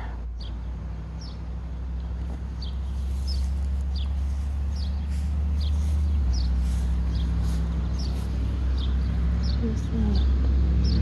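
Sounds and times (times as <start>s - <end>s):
steady low hum: 0.0s - 11.0s
small bird chirping: 2.0s - 11.0s.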